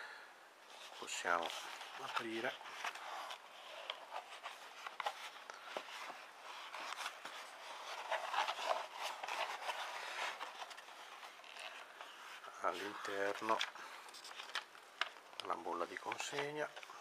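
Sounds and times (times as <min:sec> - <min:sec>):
cardboard box being opened: 0:00.9 - 0:14.6.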